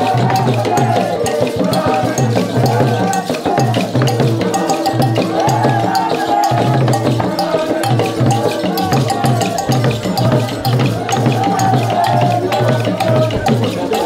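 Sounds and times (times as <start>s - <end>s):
drums beating: 0.0s - 14.0s
group singing: 0.0s - 14.0s
percussion clicks and rattles: 0.0s - 14.0s.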